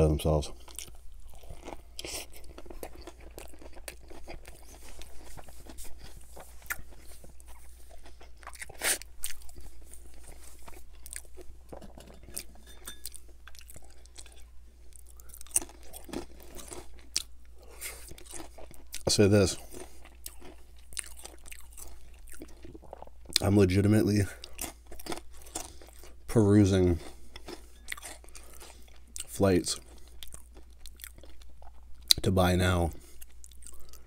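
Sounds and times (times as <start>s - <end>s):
person chewing burger: 0.5s - 23.5s, 24.2s - 26.3s, 26.9s - 32.2s, 33.0s - 34.0s.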